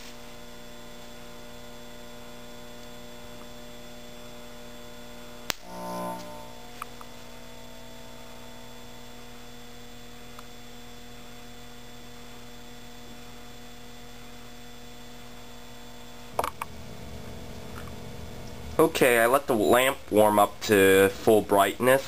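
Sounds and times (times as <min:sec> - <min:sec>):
lamp ballast electrical hum: 0:00.0 - 0:22.0.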